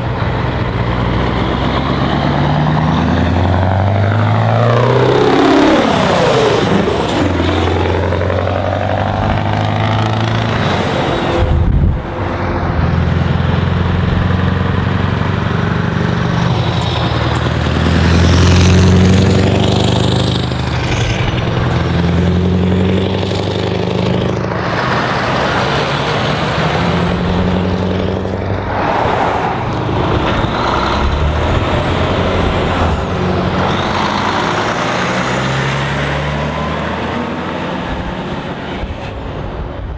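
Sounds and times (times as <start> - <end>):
heavy truck diesel engines: 0.0 - 39.9.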